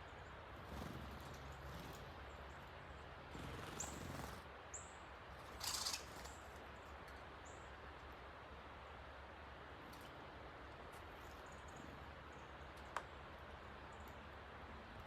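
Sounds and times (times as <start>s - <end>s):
small birds chirping: 0.0s - 7.8s, 9.9s - 15.0s
rustle: 0.0s - 15.0s.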